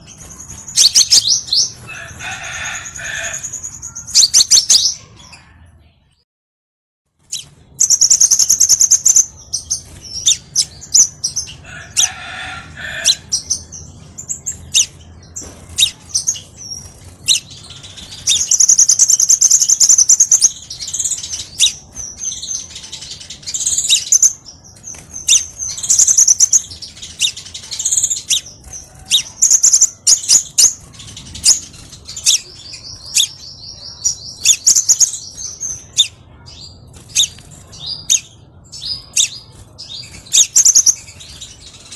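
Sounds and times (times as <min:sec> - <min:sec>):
bird chirping and trilling: 0:00.0 - 0:05.7, 0:07.2 - 0:41.9.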